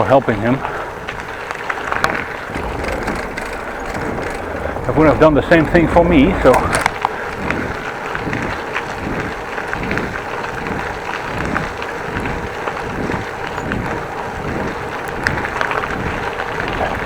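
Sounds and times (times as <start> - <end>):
wind buffeting microphone: 0.4 - 17.0
tyre and road noise: 0.8 - 17.0.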